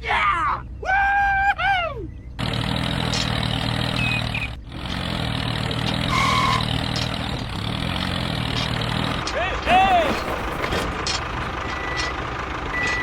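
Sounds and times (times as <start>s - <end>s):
tractor engine running: 2.4s - 13.0s.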